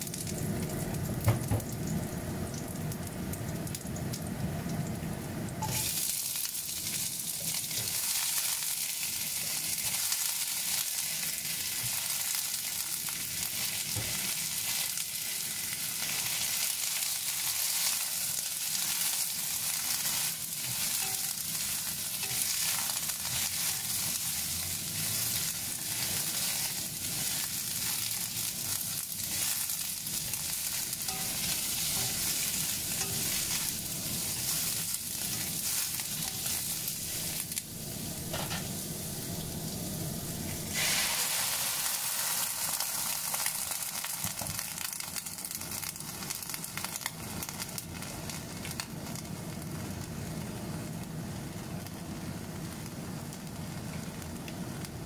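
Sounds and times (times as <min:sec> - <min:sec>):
okra sizzling in oil: 0:00.0 - 0:55.0.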